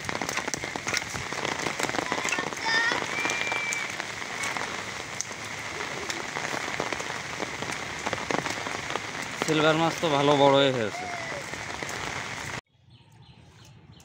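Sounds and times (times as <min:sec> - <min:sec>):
rain pattering on muddy ground: 0:00.0 - 0:12.6.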